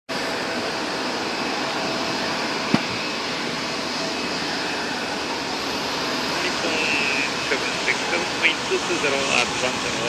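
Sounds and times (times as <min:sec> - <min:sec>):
jet engine rushing hiss: 0:00.2 - 0:10.0.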